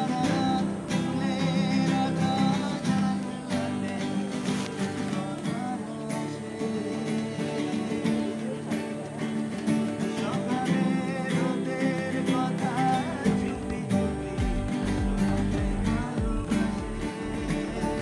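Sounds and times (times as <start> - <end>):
person singing: 0.0 - 18.0
strummed acoustic guitar: 0.0 - 18.0.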